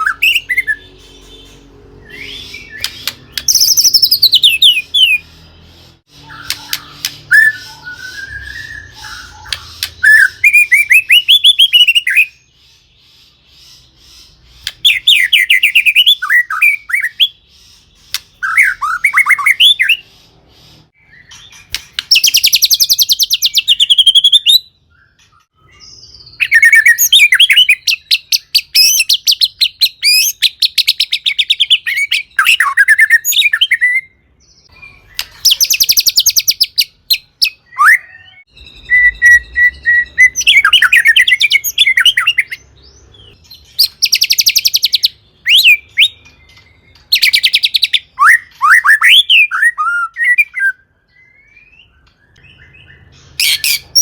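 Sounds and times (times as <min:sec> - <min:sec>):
bird singing trills and whistles: 0:00.0 - 0:54.0.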